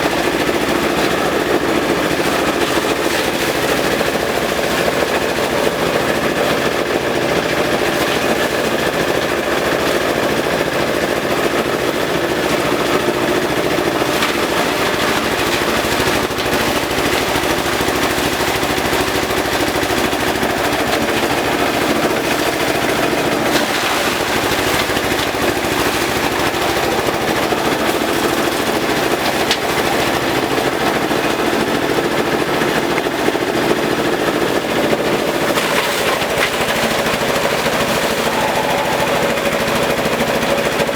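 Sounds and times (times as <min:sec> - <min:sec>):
shredder blades clattering on stalks: 0:00.0 - 0:40.9
shredder machine drone: 0:00.0 - 0:40.9.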